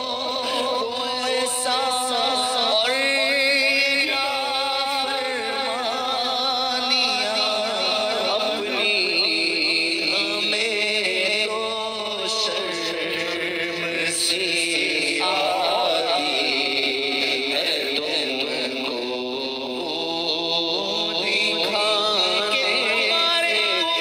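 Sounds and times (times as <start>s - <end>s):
man chanting devotional poem: 0.0s - 24.0s.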